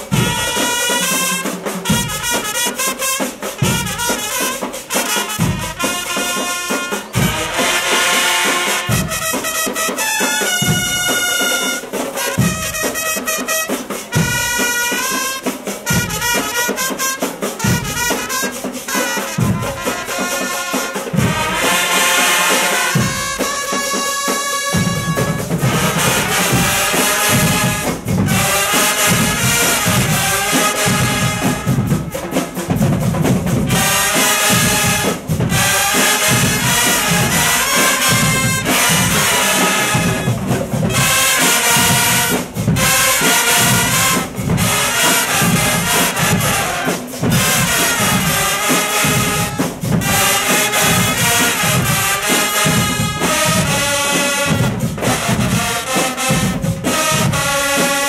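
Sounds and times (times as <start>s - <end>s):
marching band brass: 0.0s - 58.0s
steady drum beat: 0.0s - 58.0s.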